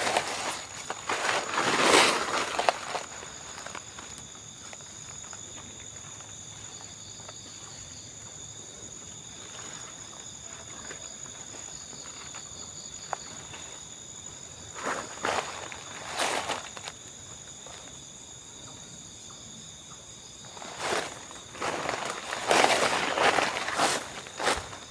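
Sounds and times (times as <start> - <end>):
crickets trilling: 0.0 - 24.9.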